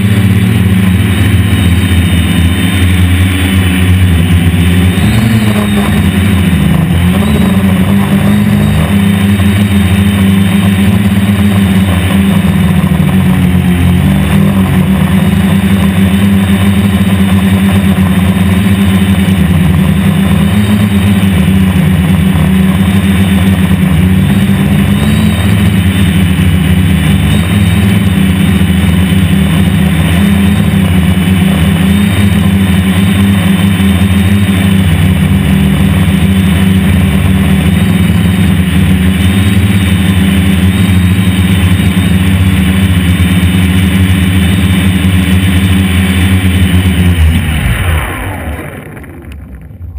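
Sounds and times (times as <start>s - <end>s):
quadcopter propellers buzzing: 0.0s - 49.9s.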